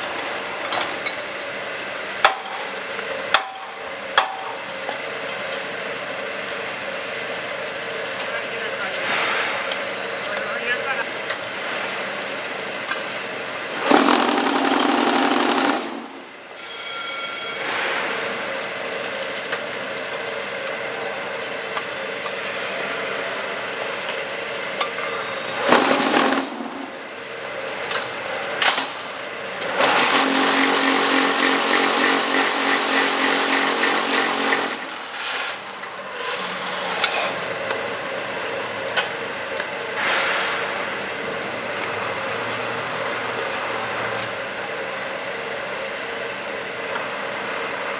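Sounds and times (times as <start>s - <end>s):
block making machine running: 0.0s - 16.6s, 17.6s - 47.9s.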